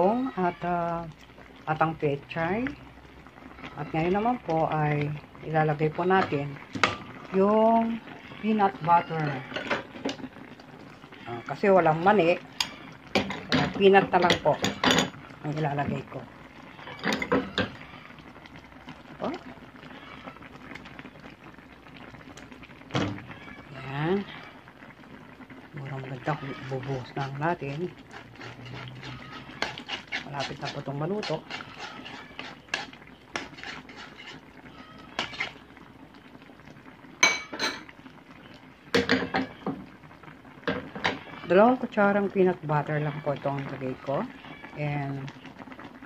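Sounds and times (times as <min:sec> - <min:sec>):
sauce bubbling in a pan: 0:00.0 - 0:46.0.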